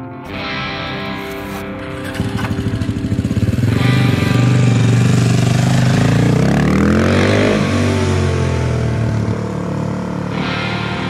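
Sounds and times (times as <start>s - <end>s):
pocket bike engine revving: 1.1s - 11.0s.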